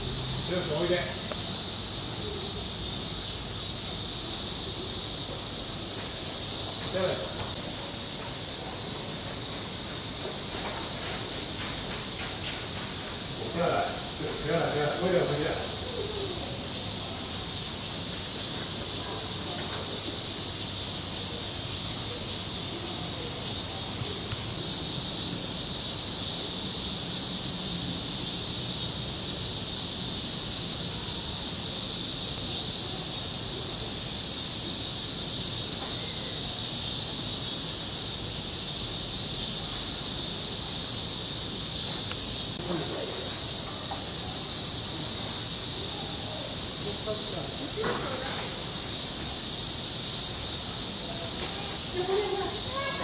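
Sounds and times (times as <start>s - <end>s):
cicadas chorus: 0.0s - 53.0s.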